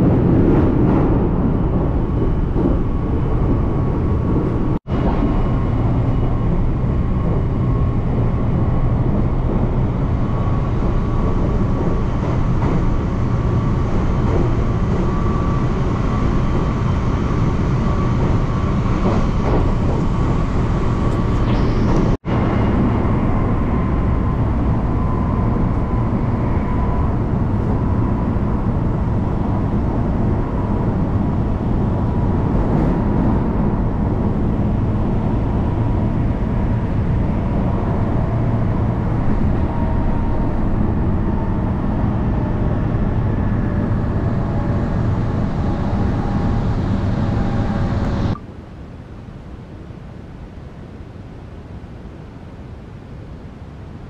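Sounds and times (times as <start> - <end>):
train wheels rumbling on rails: 0.0 - 48.4
faint steady whine: 1.5 - 54.0.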